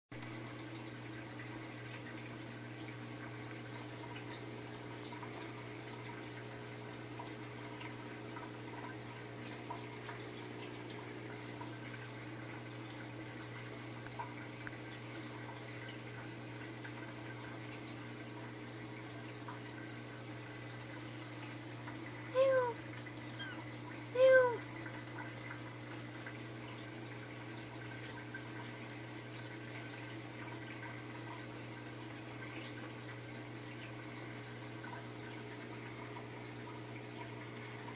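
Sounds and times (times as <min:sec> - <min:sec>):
pump humming: 0:00.2 - 0:37.9
water trickling: 0:00.2 - 0:37.9.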